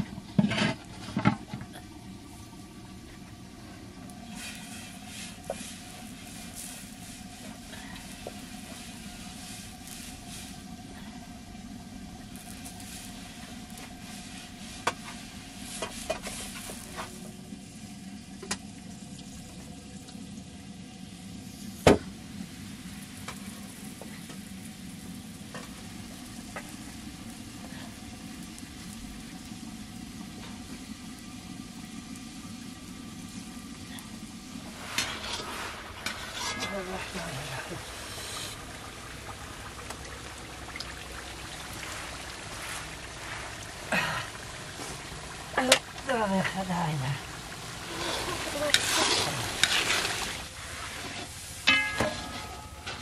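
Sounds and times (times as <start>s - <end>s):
burning wood crackling: 0.0s - 53.0s
griddle sizzling hiss: 0.0s - 53.0s.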